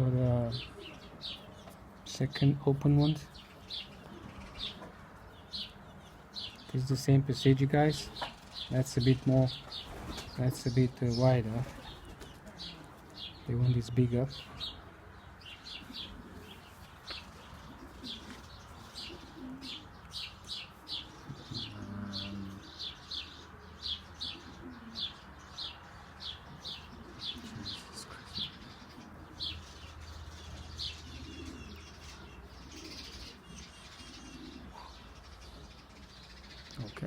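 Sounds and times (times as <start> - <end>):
pigeons cooing: 0.0 - 1.8, 2.8 - 37.0.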